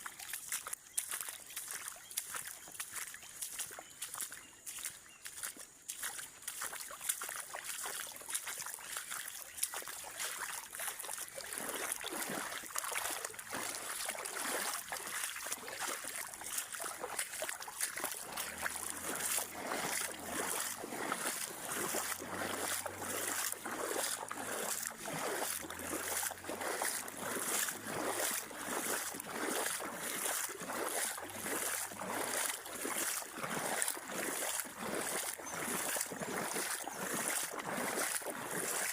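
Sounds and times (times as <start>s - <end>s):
rhythmic splashing in water: 0.0s - 38.9s.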